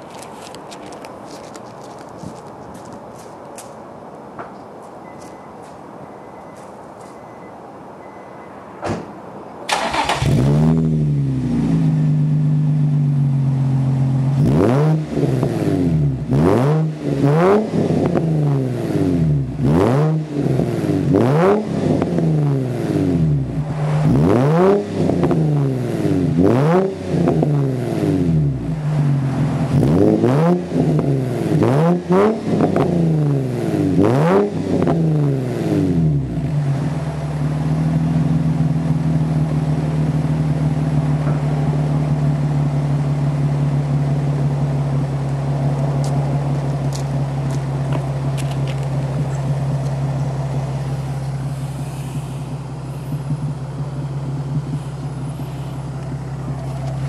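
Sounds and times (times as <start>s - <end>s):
car engine idling and revving: 0.0s - 3.8s, 9.6s - 57.0s.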